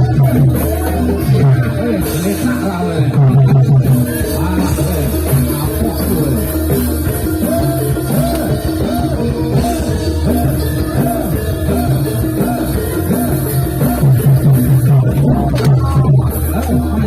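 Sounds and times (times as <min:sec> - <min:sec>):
drumming: 0:00.0 - 0:17.0
gamelan notes bending in pitch: 0:00.0 - 0:17.0.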